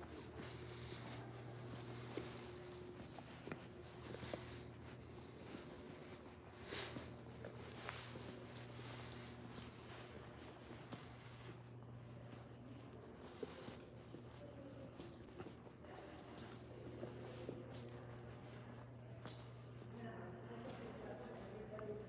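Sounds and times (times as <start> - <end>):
footsteps on tile floor: 0.0 - 22.0.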